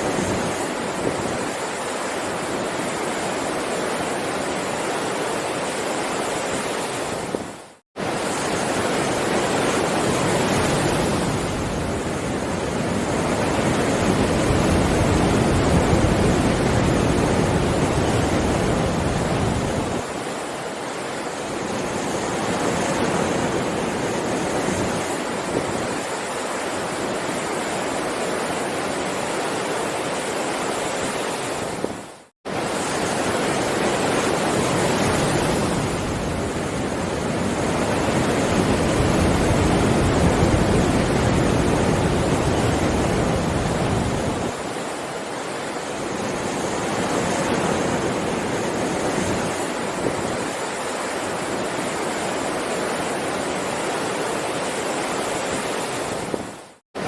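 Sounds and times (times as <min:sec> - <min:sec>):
sea waves rushing surf: 0:00.0 - 0:57.0.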